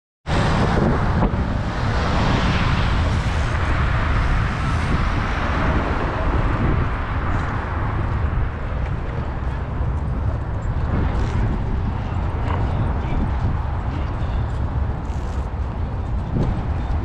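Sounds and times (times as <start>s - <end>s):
cars driving past: 0.3s - 17.0s.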